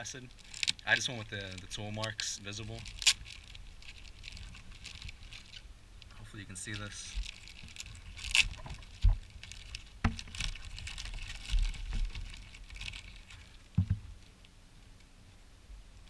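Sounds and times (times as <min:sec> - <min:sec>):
packaging rustling: 0:00.0 - 0:14.1.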